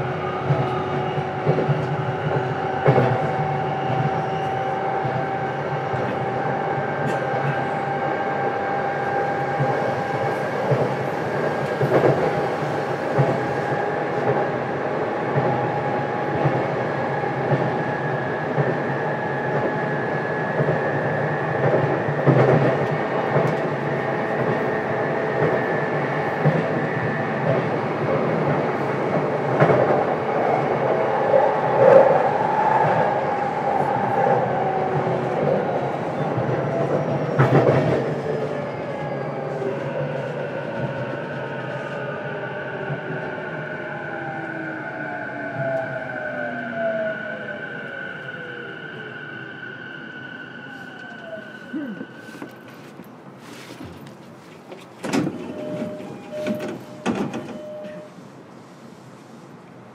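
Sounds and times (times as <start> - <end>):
wheels rumbling on rail: 0.0 - 44.3, 50.8 - 59.9.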